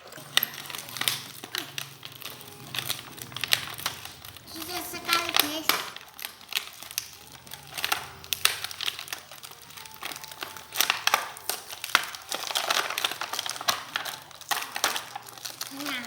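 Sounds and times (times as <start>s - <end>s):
plastic packaging crinkling: 0.0s - 16.0s
sharp clicks and snaps: 0.2s - 16.0s.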